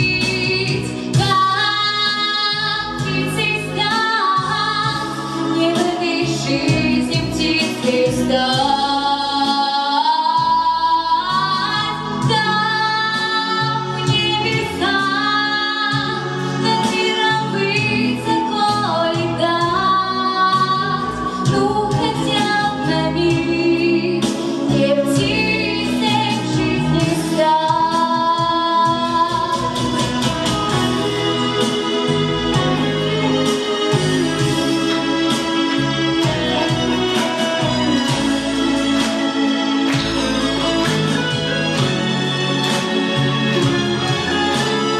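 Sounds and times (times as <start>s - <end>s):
woman singing into a microphone: 0.0s - 38.2s
instrumental accompaniment: 0.0s - 44.9s.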